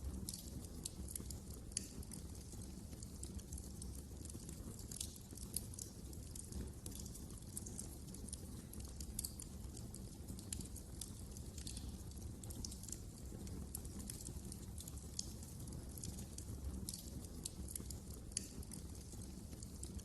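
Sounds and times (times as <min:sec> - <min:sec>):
fire rumbling and crackling: 0:00.0 - 0:20.0.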